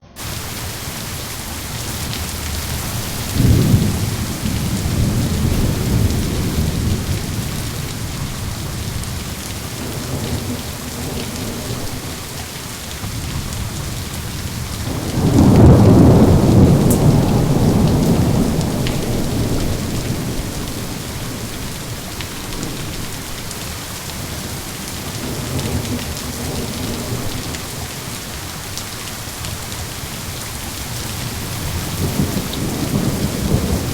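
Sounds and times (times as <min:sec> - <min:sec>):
steady rain: 0:00.1 - 0:33.9
rolling thunder: 0:00.2 - 0:28.1, 0:30.8 - 0:33.9.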